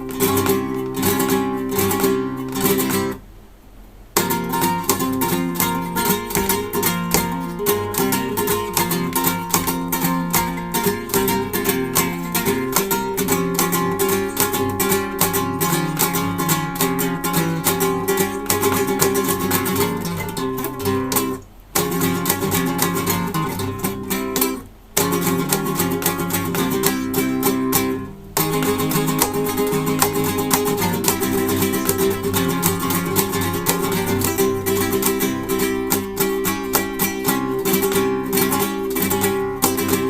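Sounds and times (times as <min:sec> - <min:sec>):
acoustic guitar: 0:00.0 - 0:03.3, 0:04.1 - 0:40.0.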